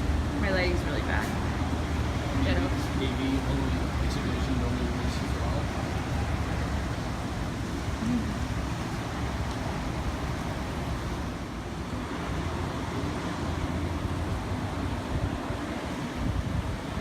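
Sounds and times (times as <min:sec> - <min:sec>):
low rumbling wind and weather: 0:00.0 - 0:17.0.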